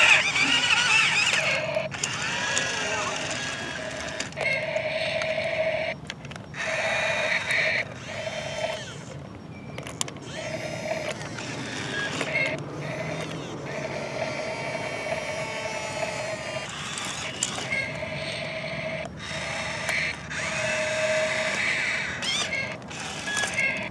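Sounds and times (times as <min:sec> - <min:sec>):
toy excavator motors whirring: 0:00.0 - 0:23.9.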